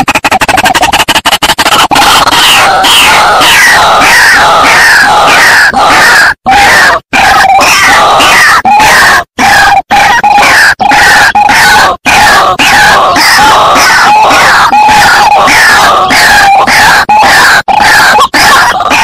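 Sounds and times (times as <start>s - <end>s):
waterhen calling: 0.2s - 19.0s.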